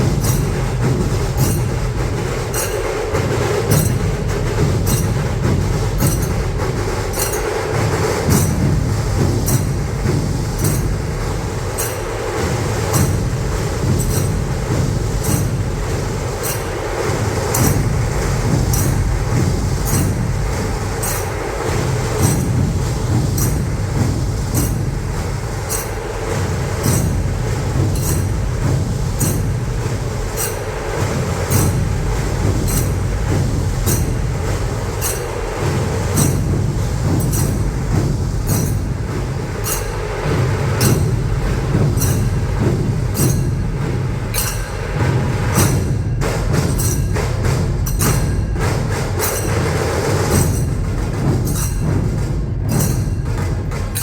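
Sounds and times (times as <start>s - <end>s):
massed drums playing: 0.0s - 54.0s
metallic clash: 0.0s - 54.0s.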